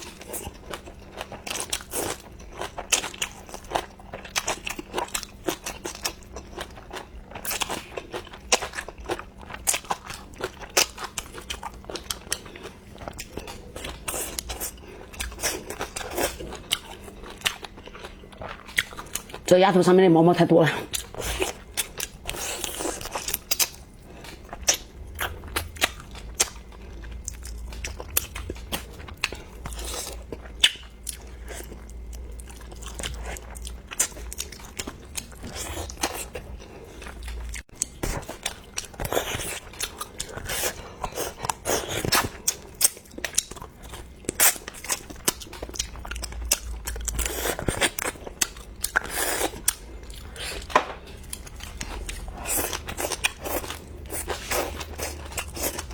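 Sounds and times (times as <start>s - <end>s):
person chewing and crunching: 0.0s - 19.5s, 20.6s - 55.9s.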